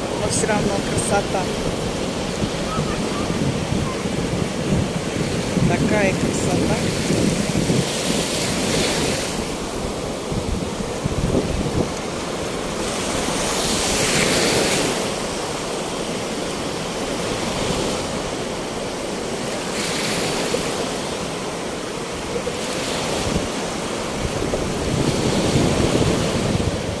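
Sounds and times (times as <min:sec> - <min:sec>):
wind buffeting microphone: 0:00.0 - 0:18.3, 0:22.8 - 0:27.0
waves breaking: 0:00.0 - 0:27.0.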